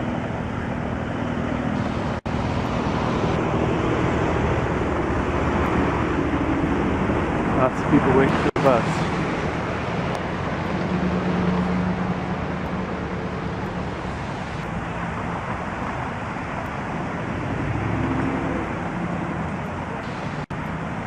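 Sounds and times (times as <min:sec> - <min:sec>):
engine hum: 0:00.0 - 0:21.0
traffic noise: 0:00.0 - 0:21.0.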